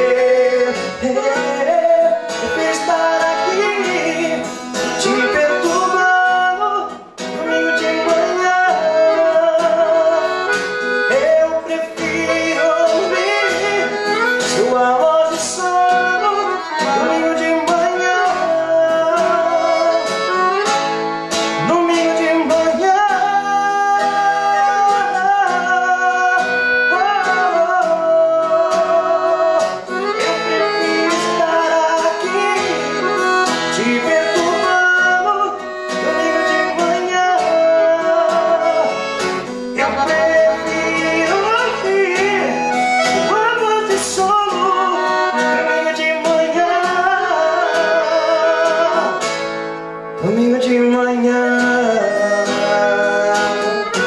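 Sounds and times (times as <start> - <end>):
free-reed instrument melody: 0.0 - 54.0
guitar accompaniment: 0.0 - 54.0.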